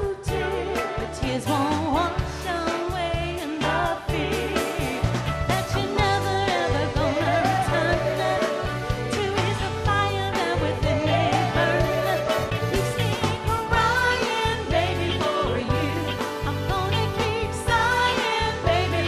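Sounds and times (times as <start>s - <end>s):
bass line: 0.0s - 19.0s
drums: 0.0s - 19.0s
soul song with sung vocal: 0.0s - 19.0s.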